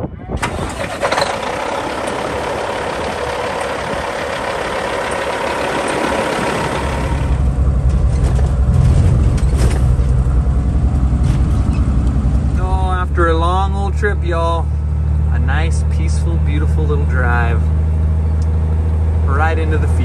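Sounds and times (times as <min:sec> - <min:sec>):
diesel truck engine rumble: 0:00.0 - 0:20.0.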